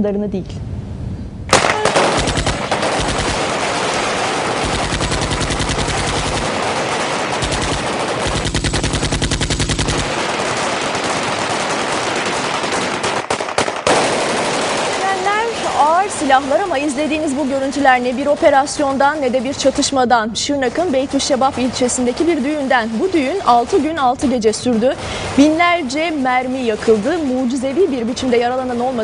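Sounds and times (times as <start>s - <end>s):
rapid automatic gunfire: 1.5s - 29.0s.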